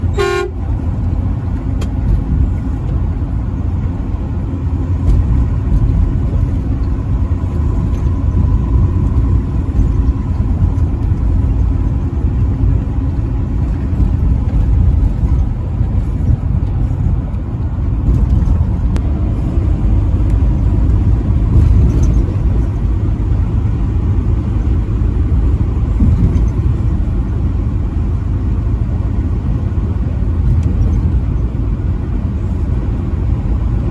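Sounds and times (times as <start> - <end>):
road noise: 0.0 - 33.9
truck engine rumble: 0.0 - 33.9.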